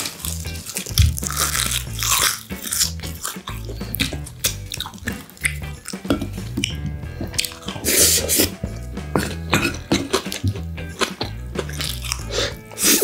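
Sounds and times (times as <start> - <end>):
background music: 0.0 - 13.0
chewing: 0.0 - 13.0
eating clicks: 0.0 - 13.0.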